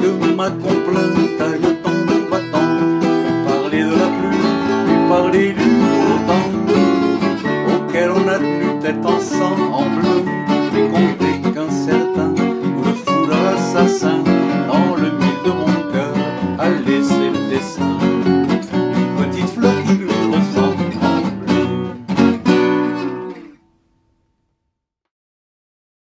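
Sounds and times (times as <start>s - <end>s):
lead guitar picking: 0.0s - 23.6s
rhythm guitar strumming: 0.0s - 23.7s.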